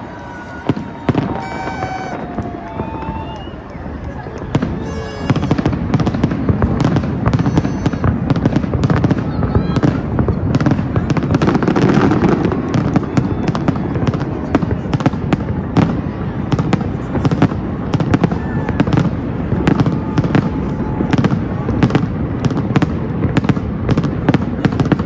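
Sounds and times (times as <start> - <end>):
fireworks bangs and crackles: 0.2 - 25.0.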